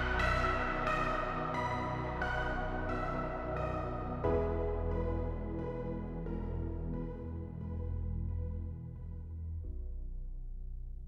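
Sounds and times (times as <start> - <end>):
soft electronic keyboard notes: 0.0 - 11.0.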